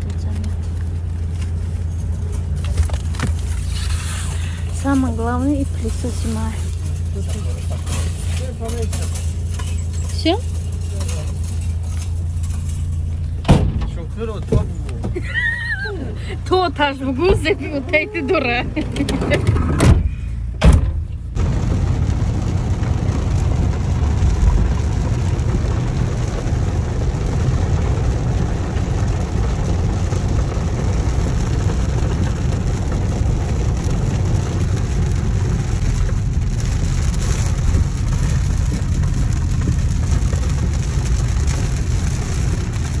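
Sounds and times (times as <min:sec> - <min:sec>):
car engine: 0:00.0 - 0:43.0
rain on car body: 0:00.0 - 0:43.0.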